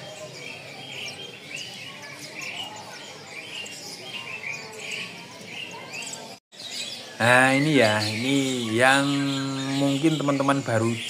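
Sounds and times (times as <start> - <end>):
birds chirping: 0.0 - 11.0
murmur of busy market: 0.0 - 11.0.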